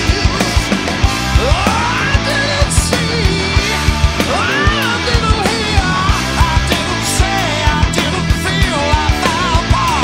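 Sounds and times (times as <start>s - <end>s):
heavy rock music: 0.0s - 10.0s.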